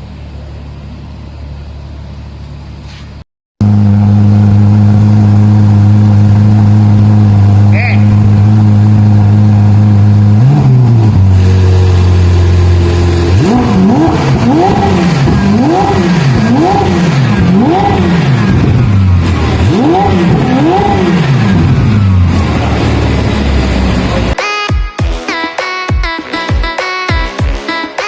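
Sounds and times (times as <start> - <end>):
car engine idling and revving: 0.0 - 24.4.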